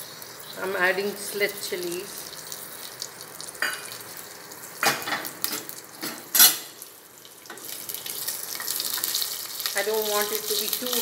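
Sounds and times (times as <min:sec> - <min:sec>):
chilies sizzling in hot oil: 0:00.0 - 0:11.0.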